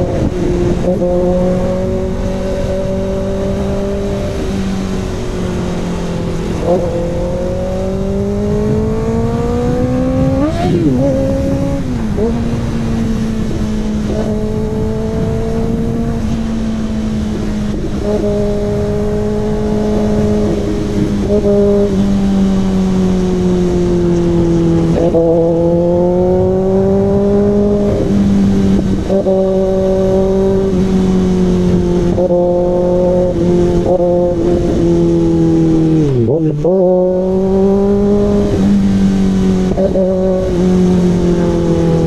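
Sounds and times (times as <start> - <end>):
motorcycle engine droning: 0.0 - 42.0.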